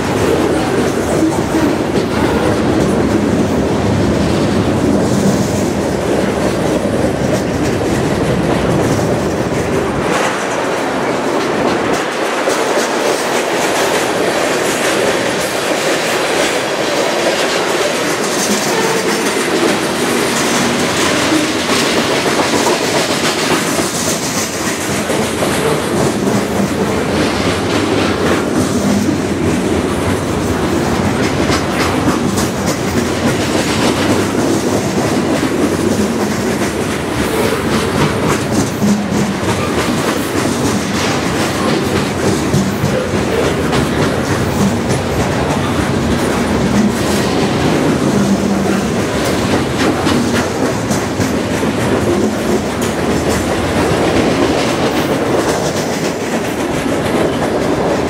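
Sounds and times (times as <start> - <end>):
wheels clicking over rail joints: 0.0 - 58.0.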